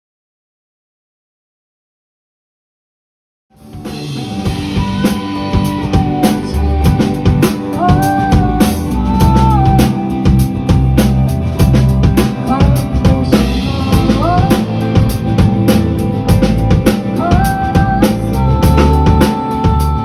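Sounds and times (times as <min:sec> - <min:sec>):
bass line: 0:03.5 - 0:20.0
drum kit beat: 0:03.6 - 0:20.0.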